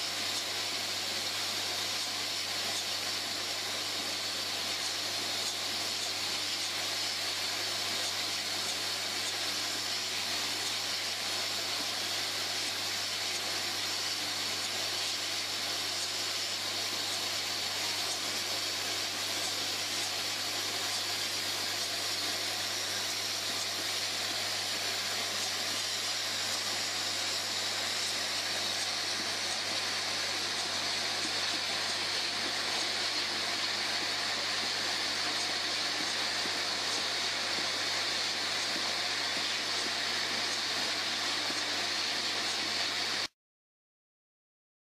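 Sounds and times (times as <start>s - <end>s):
machine hissing: 0.0s - 43.3s.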